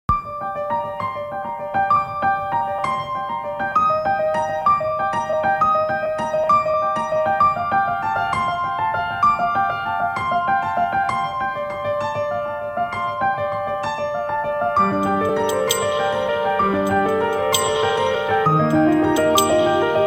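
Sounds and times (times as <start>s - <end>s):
piano run of notes: 0.1s - 20.0s.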